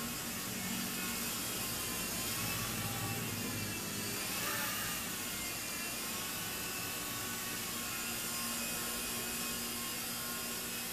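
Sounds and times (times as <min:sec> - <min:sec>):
toy helicopter rotor whirring: 0:00.0 - 0:10.9.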